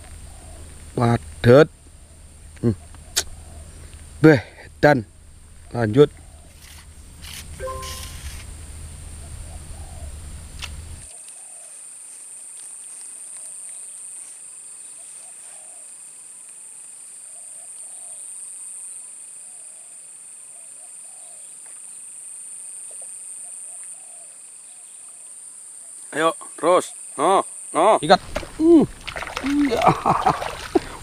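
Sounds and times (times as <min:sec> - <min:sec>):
fainter insect tone: 0:00.0 - 0:31.0
insects trilling: 0:00.0 - 0:31.0.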